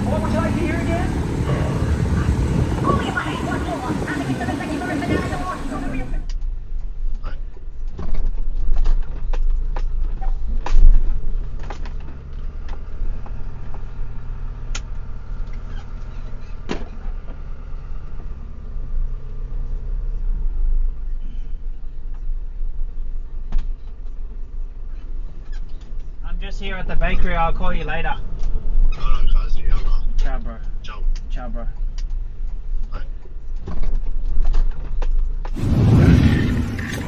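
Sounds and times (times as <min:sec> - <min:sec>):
vehicle engine rumbling: 0:00.0 - 0:06.4, 0:09.4 - 0:26.2, 0:26.8 - 0:37.0.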